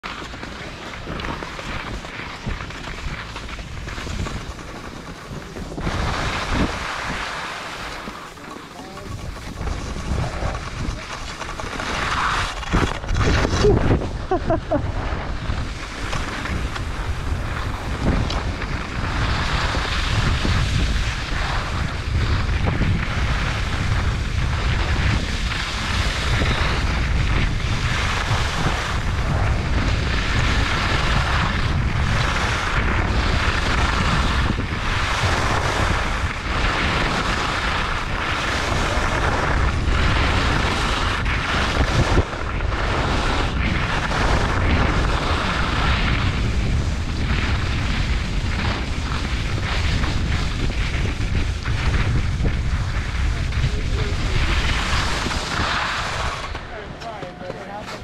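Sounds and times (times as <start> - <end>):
skis carving on snow: 0.0 - 58.0
wind buffeting microphone: 0.0 - 58.0.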